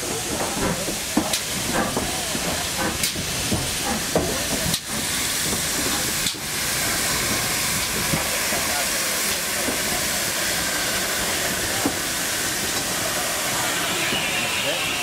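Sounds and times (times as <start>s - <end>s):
loud hiss of escaping steam: 0.0s - 15.0s.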